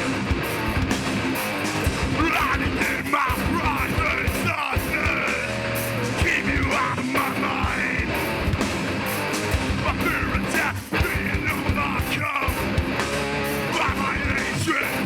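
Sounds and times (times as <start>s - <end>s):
distorted guitars: 0.0s - 15.0s
hardcore band playing live: 0.0s - 15.0s
pounding drums: 0.0s - 15.0s
yelled vocals: 0.0s - 15.0s.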